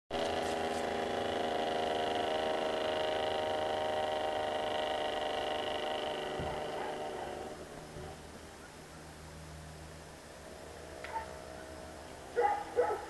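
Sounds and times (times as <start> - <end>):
vehicle engine humming: 0.1 - 13.0.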